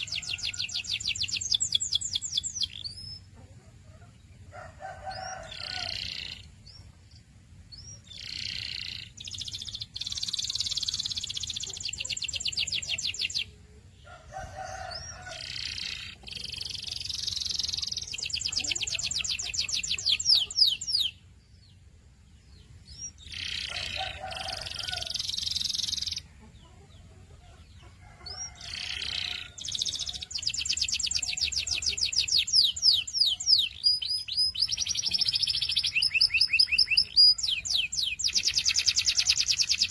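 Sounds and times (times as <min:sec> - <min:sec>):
canary singing with trills: 0:00.0 - 0:39.9.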